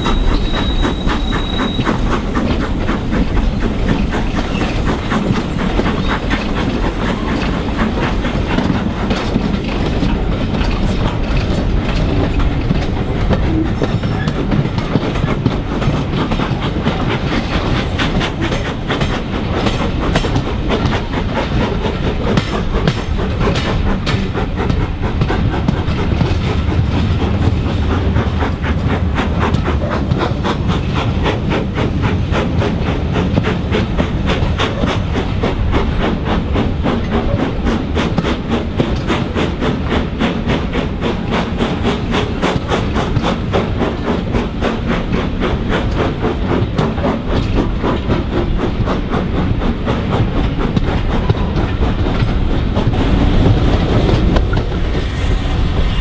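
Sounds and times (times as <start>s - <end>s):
train rumble: 0.0s - 56.0s
wheels clicking over rails: 0.0s - 56.0s.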